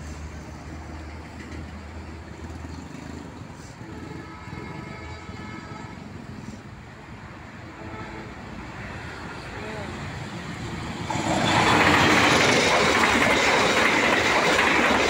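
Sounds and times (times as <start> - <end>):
distant locomotive engine rumble: 0.0 - 15.0
road traffic noise: 0.0 - 15.0.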